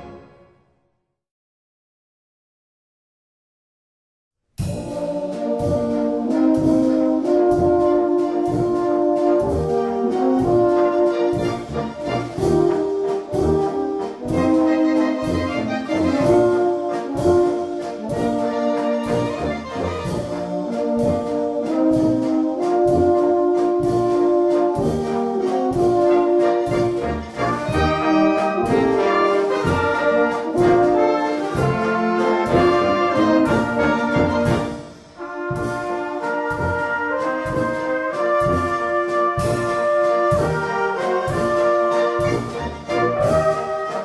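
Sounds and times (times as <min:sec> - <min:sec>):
brass band music: 0:00.0 - 0:00.8, 0:04.6 - 0:44.0
drum strikes: 0:04.6 - 0:43.6.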